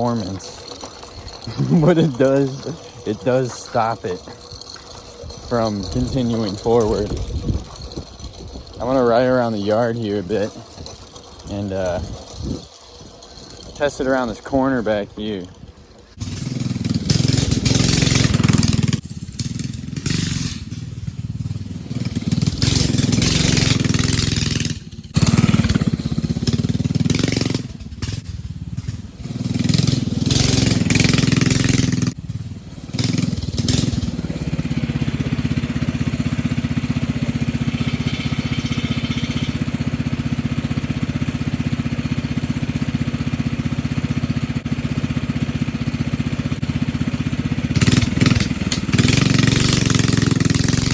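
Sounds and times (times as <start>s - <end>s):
minibike engine revving and idling: 0.0s - 50.9s.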